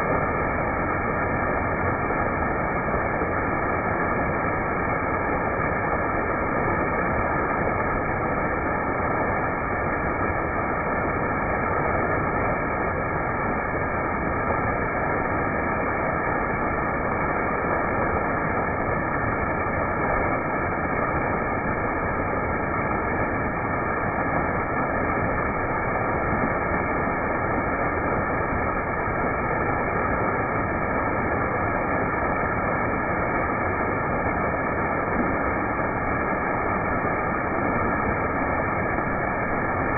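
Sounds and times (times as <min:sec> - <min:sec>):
waterfall: 0:00.0 - 0:39.9.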